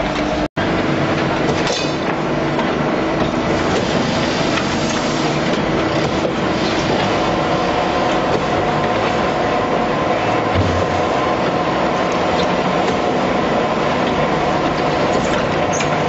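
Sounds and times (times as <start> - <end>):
heavy machinery running: 0.0 - 16.0.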